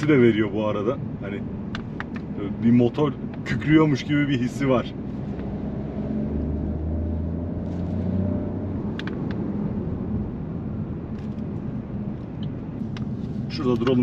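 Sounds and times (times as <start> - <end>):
car engine drone: 0.0 - 14.0
road and tyre rumble: 0.0 - 14.0.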